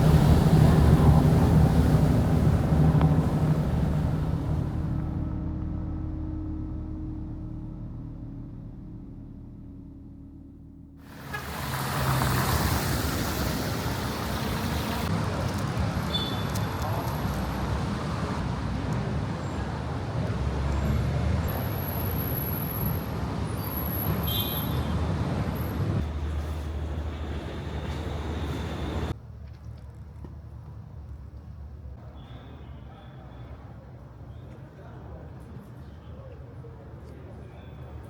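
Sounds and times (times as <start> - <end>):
street traffic rumble: 0.0 - 9.0, 11.0 - 38.0.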